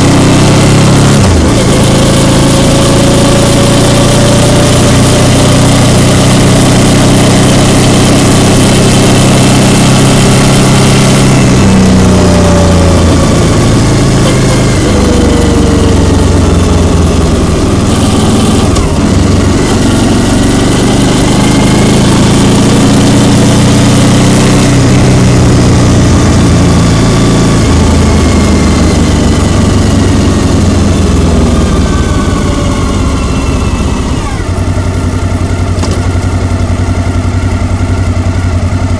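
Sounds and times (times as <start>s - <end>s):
road and wind noise: 0.0s - 38.9s
vehicle engine running: 0.0s - 38.9s.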